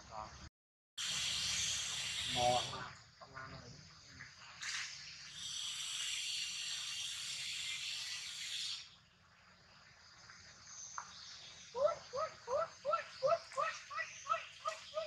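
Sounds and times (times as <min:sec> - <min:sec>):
insects buzzing: 0:01.0 - 0:09.0, 0:09.9 - 0:15.0.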